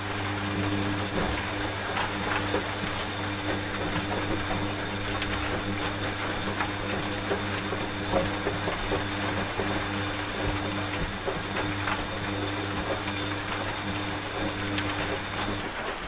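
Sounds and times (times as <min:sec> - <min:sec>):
continuous rain: 0:00.0 - 0:16.0
washing machine motor hum: 0:00.0 - 0:16.0.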